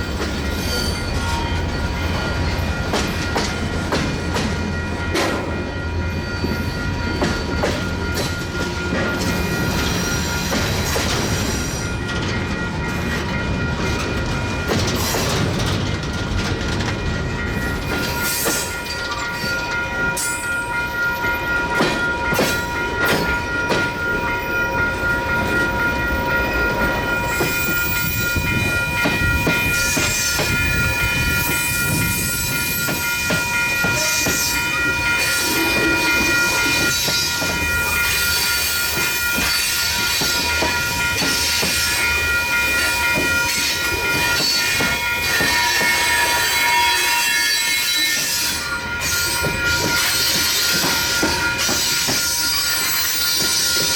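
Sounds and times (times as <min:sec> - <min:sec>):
high squeal of wheels on rails: 0:00.0 - 0:53.9.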